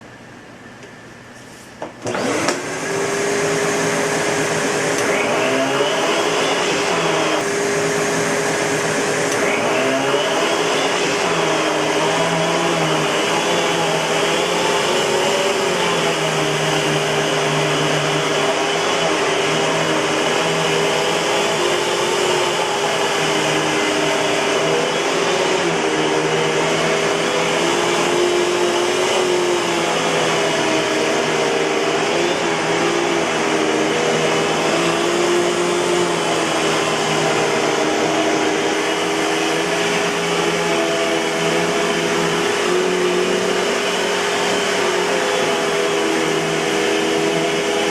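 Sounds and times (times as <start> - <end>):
vacuum cleaner motor whine: 0.0 - 47.9.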